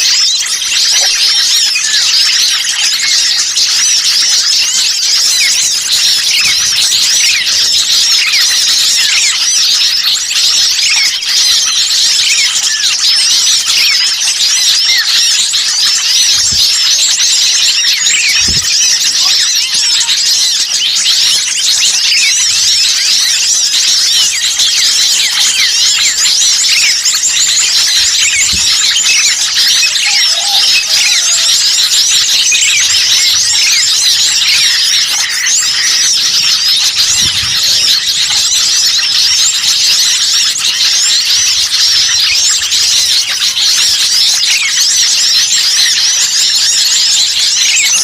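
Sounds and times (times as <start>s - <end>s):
chorus of small songbirds chirping: 0.0s - 48.0s.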